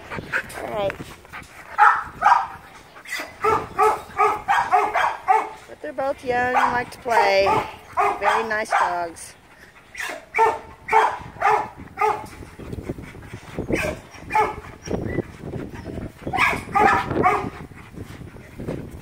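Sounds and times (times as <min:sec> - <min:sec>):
dogs yipping and barking: 0:00.0 - 0:05.7, 0:06.4 - 0:19.0.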